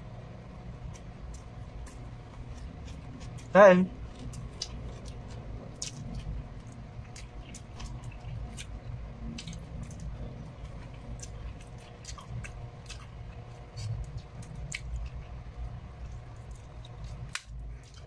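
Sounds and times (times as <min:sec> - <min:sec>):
food being chewed: 0:00.8 - 0:18.0.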